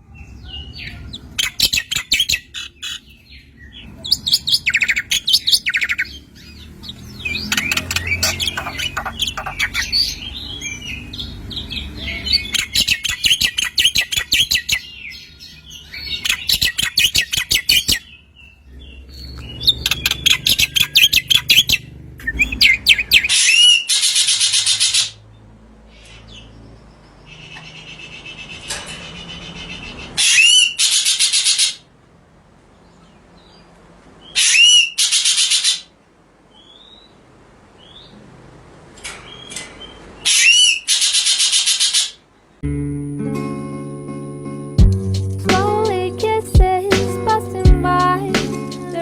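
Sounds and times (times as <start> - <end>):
songbirds trilling and chirping: 0.0 - 42.6.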